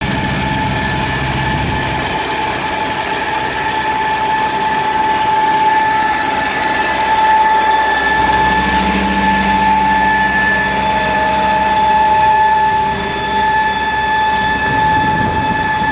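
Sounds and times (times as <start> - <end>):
low rumble: 0.0 - 15.9
mechanical noise: 0.0 - 15.9
pump high whine: 0.0 - 15.9.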